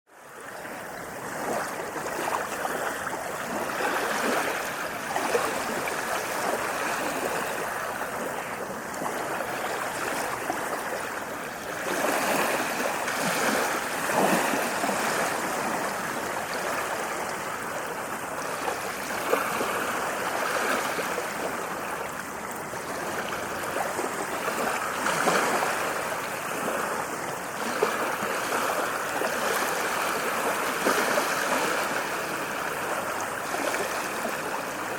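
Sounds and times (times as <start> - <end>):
ocean waves washing on shore: 0.1 - 34.9.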